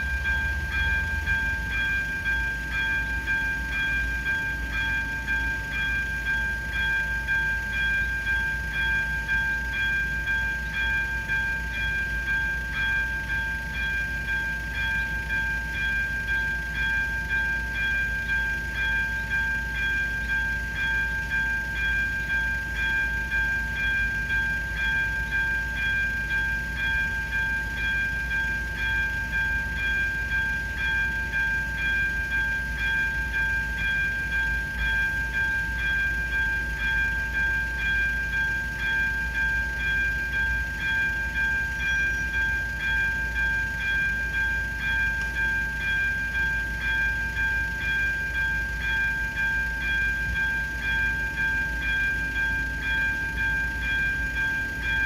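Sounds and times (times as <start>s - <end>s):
electronic crossing bell ringing: 0.0s - 55.0s.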